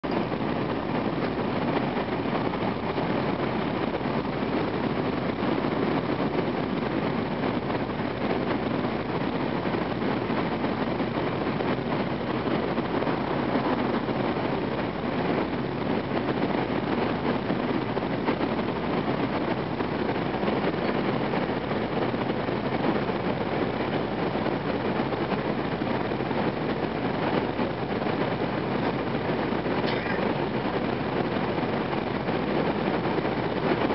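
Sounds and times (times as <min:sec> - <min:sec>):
train interior rumble: 0:00.0 - 0:33.9.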